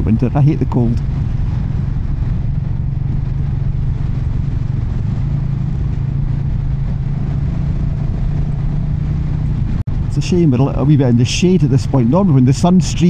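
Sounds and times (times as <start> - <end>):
wind and road noise: 0.0 - 13.0
motorcycle engine running: 0.4 - 11.5.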